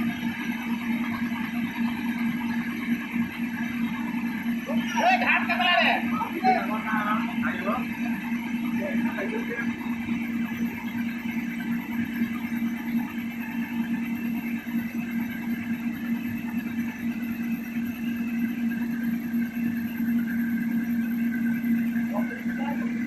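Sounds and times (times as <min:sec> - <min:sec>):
heavy diesel engine running: 0:00.0 - 0:17.0, 0:17.8 - 0:23.0.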